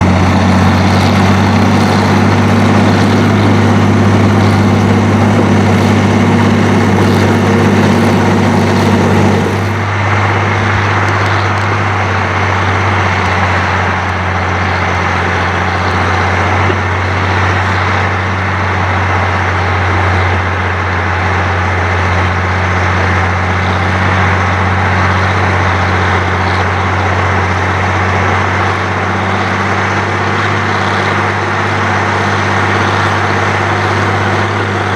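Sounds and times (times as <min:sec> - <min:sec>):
heavy diesel engines under load: 0:00.0 - 0:34.9.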